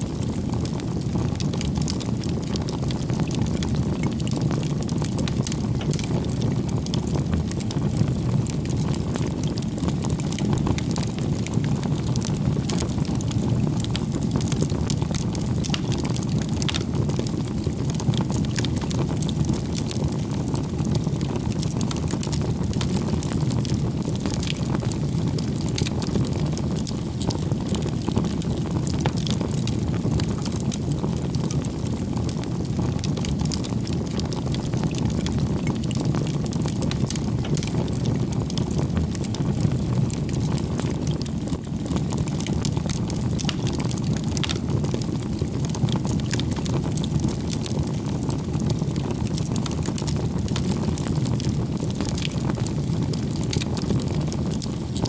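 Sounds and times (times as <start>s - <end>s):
campfire flame rumbling: 0.0s - 55.0s
fire crackling and popping: 0.0s - 55.0s.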